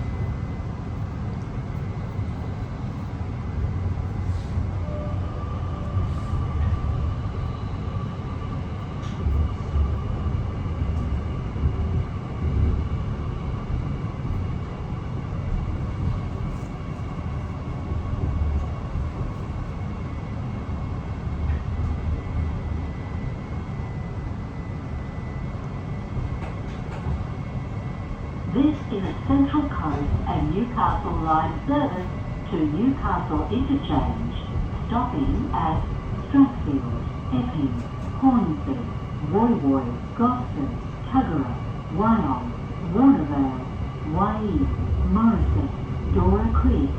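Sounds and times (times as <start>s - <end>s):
train carriage rumble and hum: 0.0s - 46.9s.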